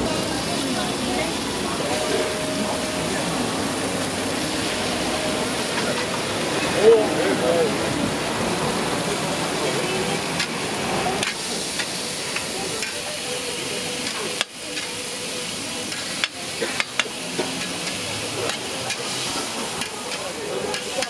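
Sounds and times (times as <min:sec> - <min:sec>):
meat sizzling on a griddle: 0:00.0 - 0:21.0.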